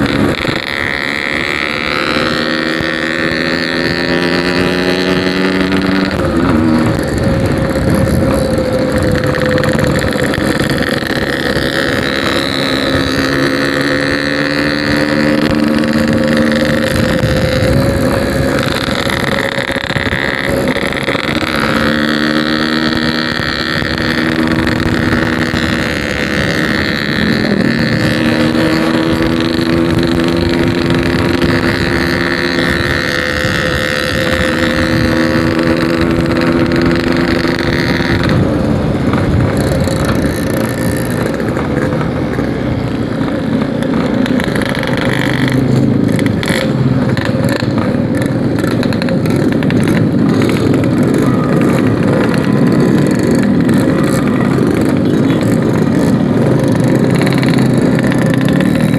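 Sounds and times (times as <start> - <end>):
two-stroke motorcycle engine revving: 0.0 - 58.9
wind and road rush on microphone: 0.0 - 58.9.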